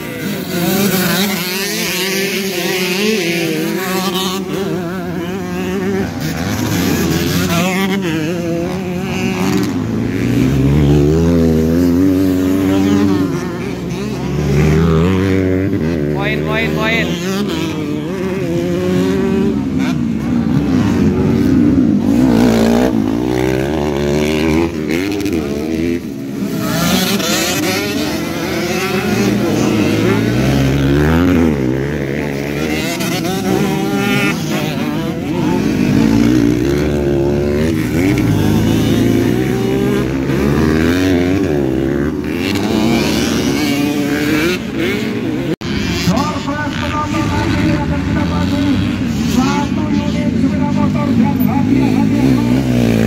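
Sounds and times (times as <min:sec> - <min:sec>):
motocross bike engines revving: 0:00.0 - 0:53.0.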